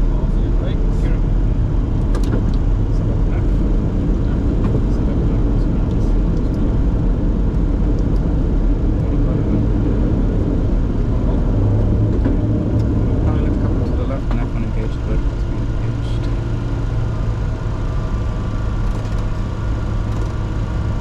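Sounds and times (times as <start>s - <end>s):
jet engine and airflow rumble: 0.0s - 21.0s.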